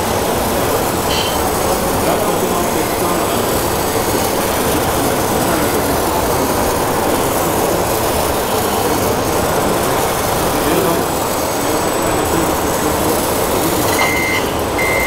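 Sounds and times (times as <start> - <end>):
rc machinery mechanical noise: 0.0 - 15.0.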